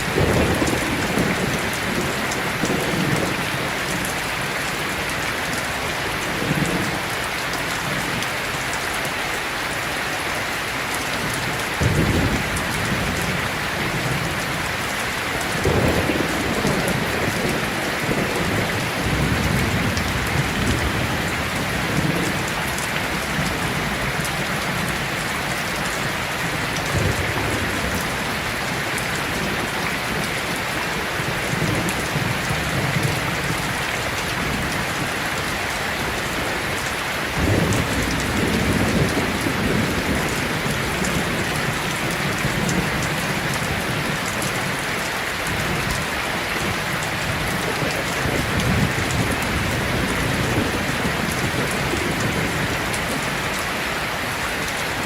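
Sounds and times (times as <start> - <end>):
thunder rumbling: 0.0 - 5.0, 11.2 - 35.1, 37.3 - 44.8, 45.4 - 53.3
heavy rain falling: 0.0 - 55.0.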